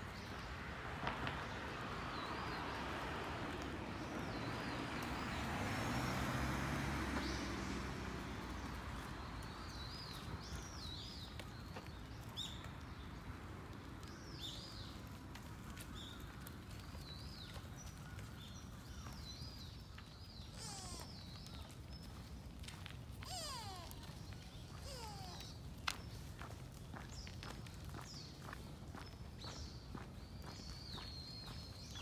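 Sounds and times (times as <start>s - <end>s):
songbirds chirping: 0.0s - 32.0s
vehicle passing on road: 0.0s - 32.0s.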